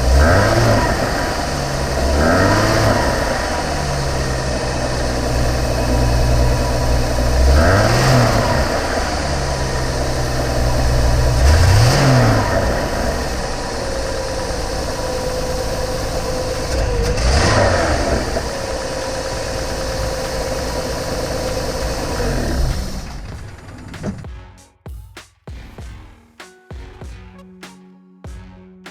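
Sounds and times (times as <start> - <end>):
truck engine idling and revving: 0.0 - 24.3.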